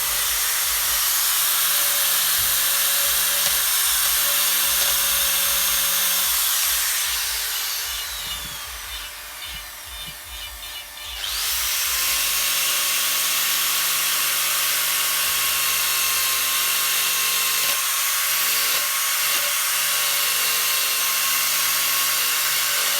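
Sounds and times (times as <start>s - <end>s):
electric carving tool grinding wood: 0.0s - 22.9s.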